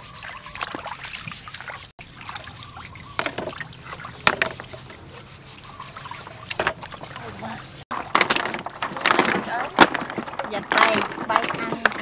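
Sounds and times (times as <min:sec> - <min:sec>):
mussels scrubbed by hand: 0:00.0 - 0:12.0
water trickling in metal basin: 0:00.0 - 0:12.0.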